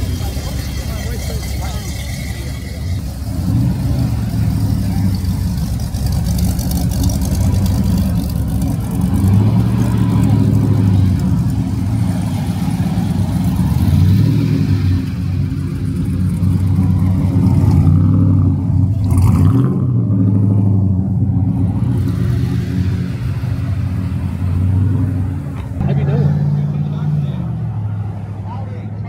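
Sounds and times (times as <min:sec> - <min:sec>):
car engine running: 0:00.0 - 0:28.1.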